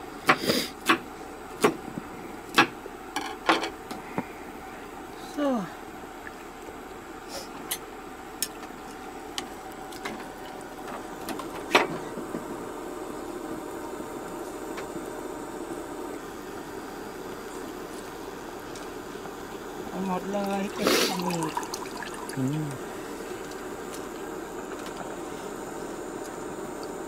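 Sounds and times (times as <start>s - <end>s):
steady low rush with hum: 1.0s - 27.0s.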